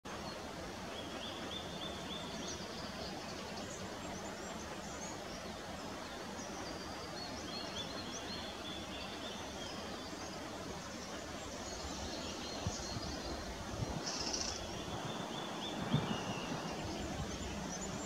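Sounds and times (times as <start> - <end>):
steady outdoor hiss: 0.0 - 18.0
small birds singing: 0.1 - 18.0.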